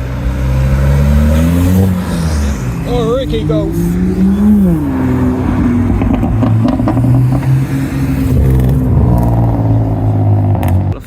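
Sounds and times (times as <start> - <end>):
car engine revving: 0.0 - 11.0
exhaust cracks: 0.0 - 11.0.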